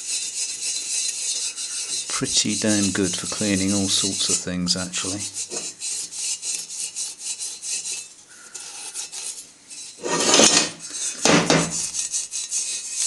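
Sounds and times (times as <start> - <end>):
abrasive pad scrubbing metal: 0.0 - 13.0.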